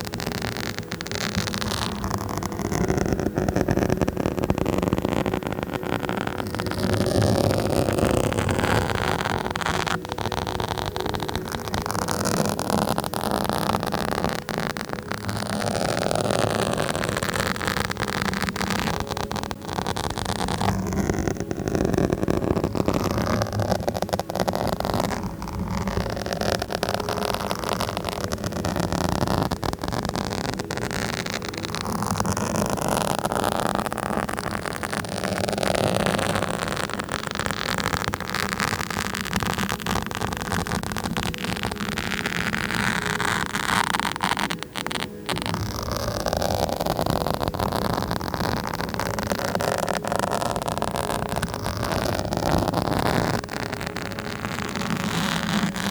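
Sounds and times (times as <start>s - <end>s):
scratching on microphone: 0.0s - 55.9s.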